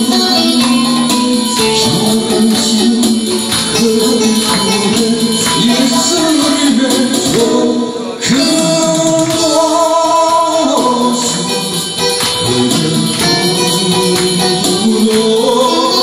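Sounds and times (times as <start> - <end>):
loud backing music: 0.0 - 16.0
man singing into a microphone: 0.0 - 16.0.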